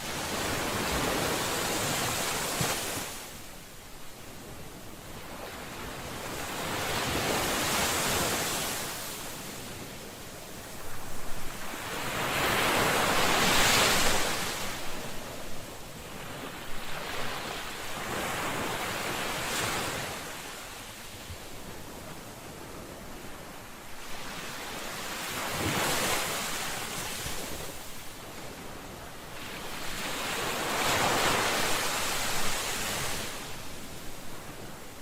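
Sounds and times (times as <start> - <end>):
ocean waves washing onto shore: 0.0 - 35.0.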